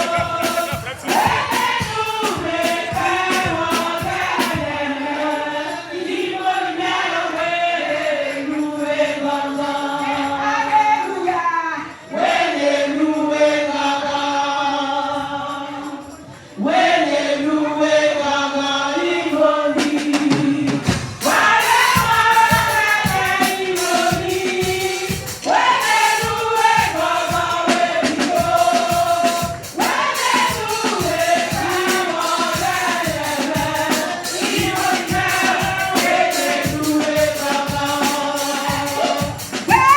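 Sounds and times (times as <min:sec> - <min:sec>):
percussion beat: 0:00.0 - 0:11.4, 0:19.2 - 0:39.9
choir singing gospel: 0:00.0 - 0:39.9.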